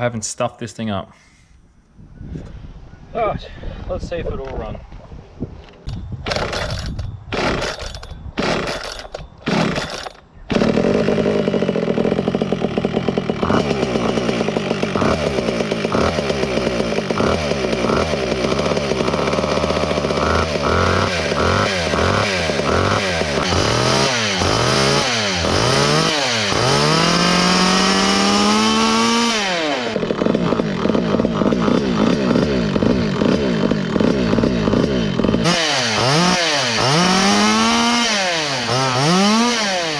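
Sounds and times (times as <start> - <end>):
chainsaw pull cord: 5.8 - 39.9
chainsaw engine revving: 6.3 - 39.9.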